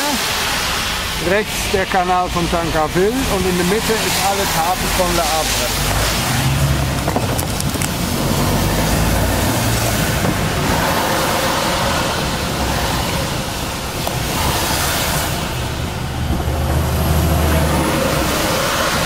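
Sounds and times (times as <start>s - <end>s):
diesel engine running: 0.0s - 19.0s
tyres hissing on wet road: 0.0s - 19.0s.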